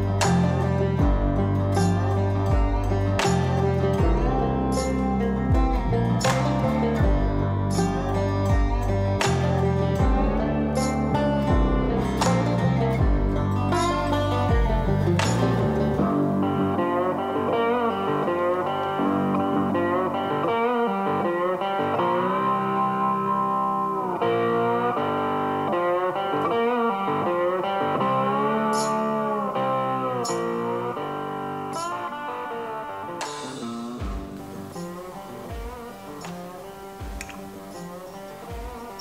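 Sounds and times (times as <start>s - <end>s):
guitar music with gliding notes: 0.0s - 39.0s.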